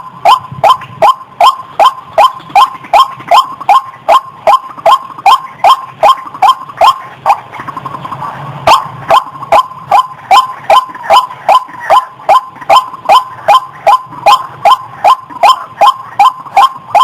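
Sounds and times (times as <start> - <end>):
thin steady tone: 0.0 - 17.0
waterhen calling kwak: 0.0 - 17.0.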